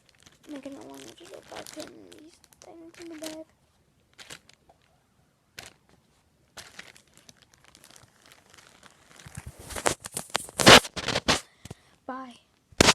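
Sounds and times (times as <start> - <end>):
bag crinkling: 0.0 - 11.4.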